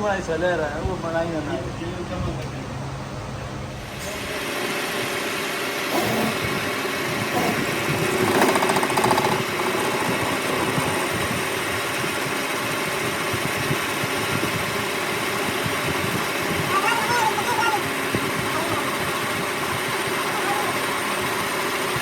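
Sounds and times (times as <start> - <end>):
machinery running: 3.6 - 22.0.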